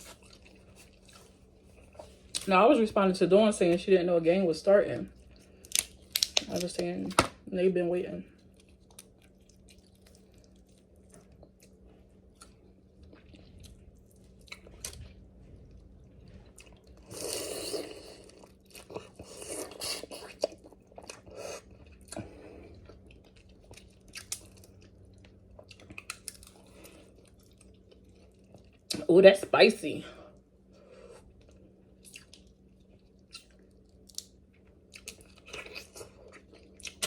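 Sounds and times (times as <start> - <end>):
person chewing and crunching: 0.0 - 2.5, 5.2 - 6.7, 8.4 - 29.0, 31.2 - 37.0
faint low hum: 0.0 - 37.0.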